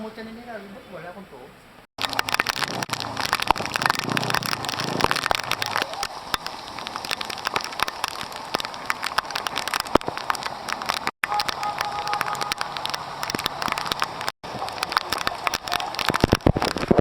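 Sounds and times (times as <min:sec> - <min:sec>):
rain on microphone: 0:02.0 - 0:17.0.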